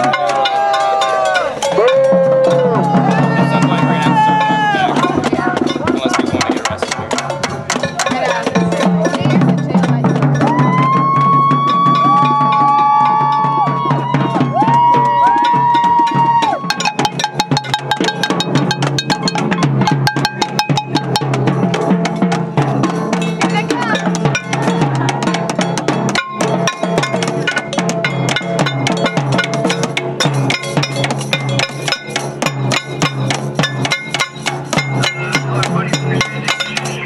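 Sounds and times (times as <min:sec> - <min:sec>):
crowd voices: 0:00.0 - 0:37.0
drums banging: 0:00.0 - 0:37.0.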